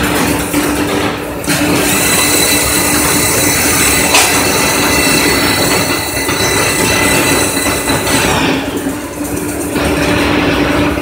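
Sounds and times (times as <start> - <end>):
machine running: 0.0 - 11.0
high-pitched whine: 1.6 - 11.0.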